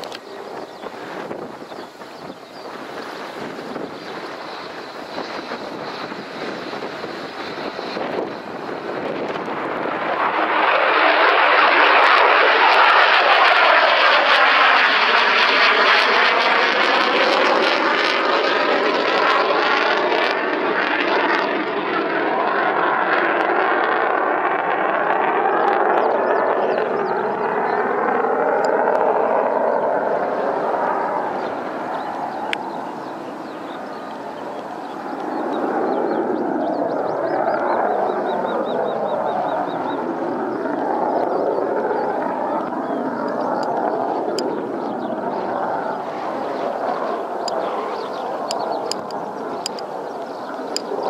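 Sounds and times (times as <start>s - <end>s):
jet engine roar: 0.0s - 51.0s.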